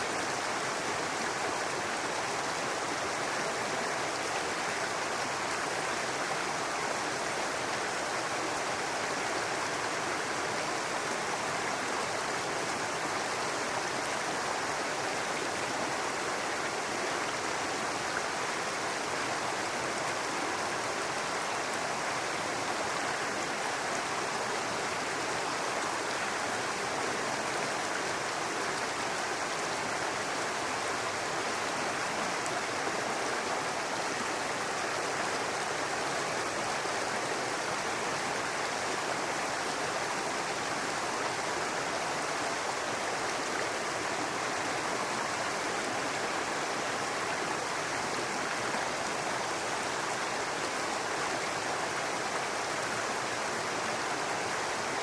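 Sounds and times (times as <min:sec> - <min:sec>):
brook babbling over rocks: 0:00.0 - 0:55.0.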